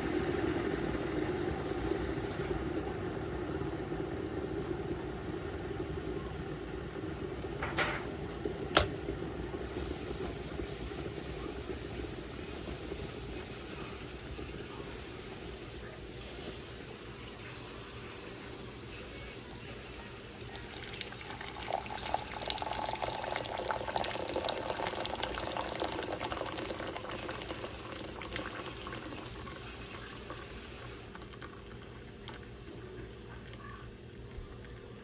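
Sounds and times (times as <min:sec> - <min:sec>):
kettle water hissing and crackling: 0:00.0 - 0:05.6, 0:08.8 - 0:35.0.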